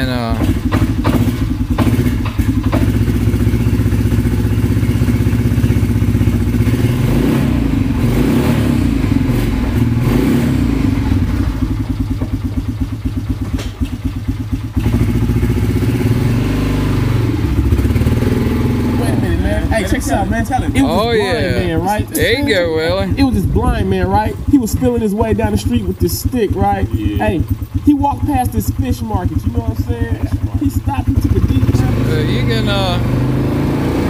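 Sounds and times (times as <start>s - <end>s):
atv engine idling: 0.0s - 33.4s.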